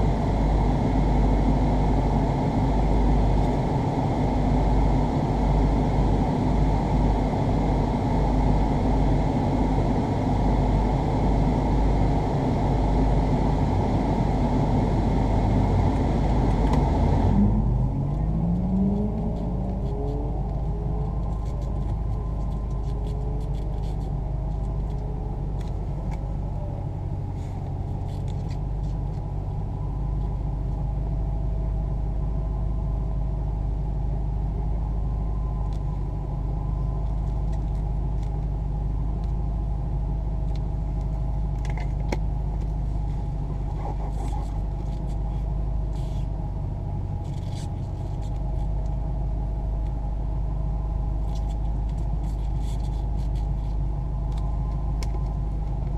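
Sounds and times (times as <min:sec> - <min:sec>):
vehicle engine rumbling steadily: 0:00.0 - 0:55.9.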